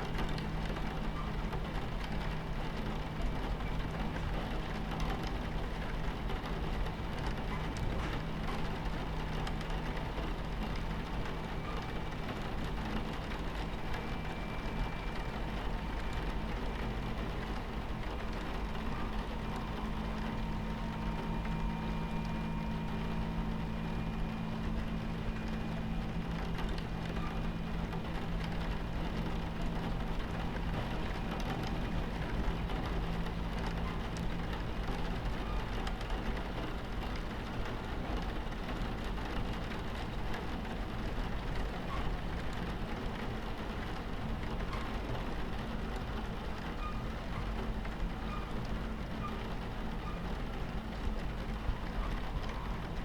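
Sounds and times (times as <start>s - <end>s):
rain pattering on window: 0.0s - 53.0s
train running rumble: 0.0s - 53.0s.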